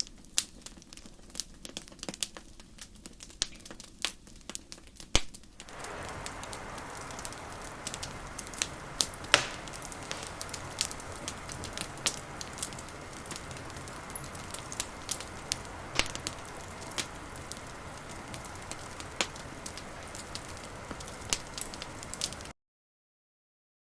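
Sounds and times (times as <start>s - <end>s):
wood fire crackling and popping: 0.0s - 22.5s.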